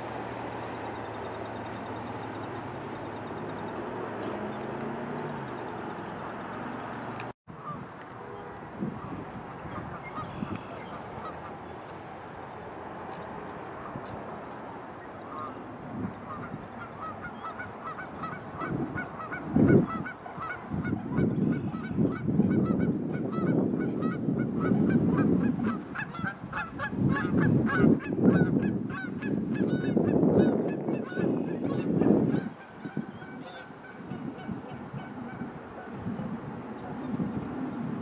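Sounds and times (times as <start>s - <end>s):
birds honking: 0.6s - 12.0s, 15.2s - 36.3s.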